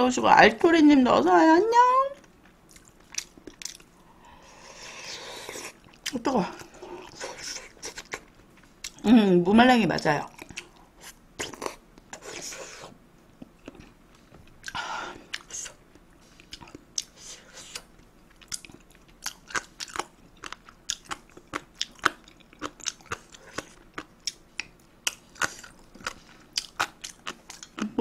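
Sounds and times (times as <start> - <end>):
person chewing food: 2.2 - 9.0, 10.0 - 28.0.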